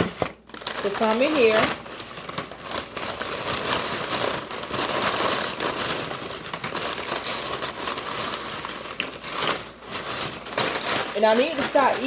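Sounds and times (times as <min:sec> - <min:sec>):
chip bag crinkling: 0:00.0 - 0:12.0.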